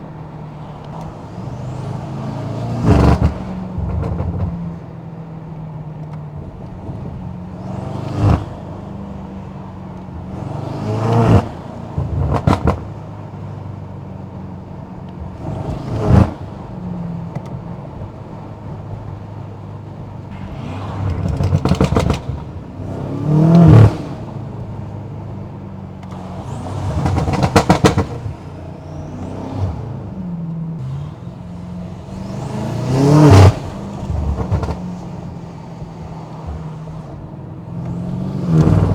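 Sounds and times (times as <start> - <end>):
car engine revving: 0.0 - 38.9
exhaust crackling pops: 0.2 - 38.9.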